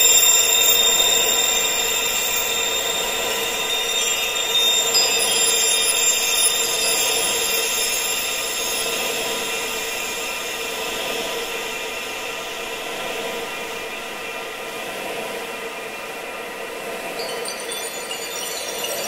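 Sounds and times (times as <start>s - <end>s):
high ringing tones: 0.0s - 14.4s, 17.0s - 19.0s
wind: 0.0s - 19.0s.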